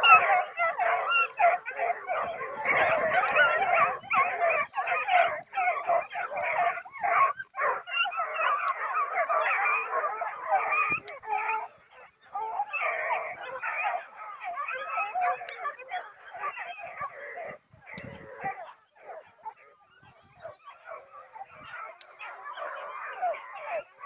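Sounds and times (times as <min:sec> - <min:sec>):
puppies yelping and baying: 0:00.0 - 0:24.0.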